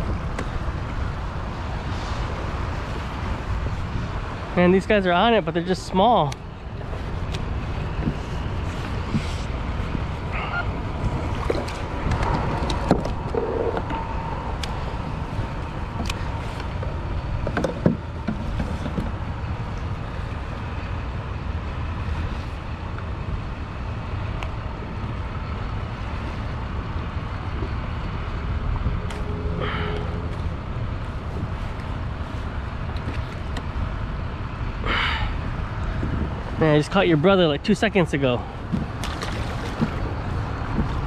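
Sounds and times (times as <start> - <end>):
wind and water rumble: 0.0 - 41.0.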